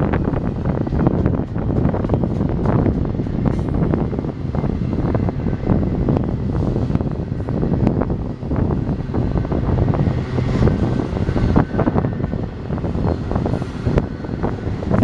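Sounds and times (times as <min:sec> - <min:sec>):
train rumbling past: 0:00.0 - 0:15.0
wind buffeting microphone: 0:00.0 - 0:15.0.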